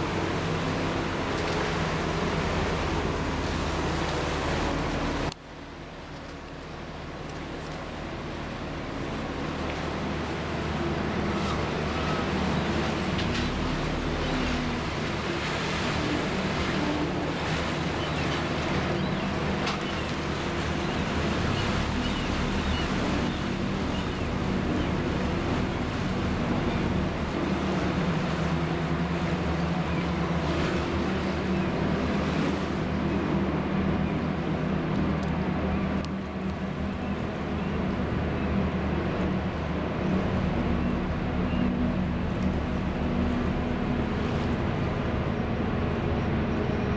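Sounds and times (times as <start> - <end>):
ferry engines droning: 0.0 - 46.9
water rushing along hull: 0.0 - 46.9.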